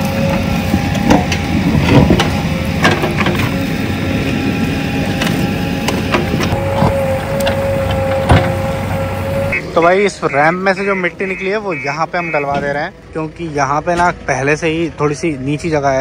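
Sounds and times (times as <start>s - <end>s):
backhoe diesel engine whining: 0.0s - 16.0s.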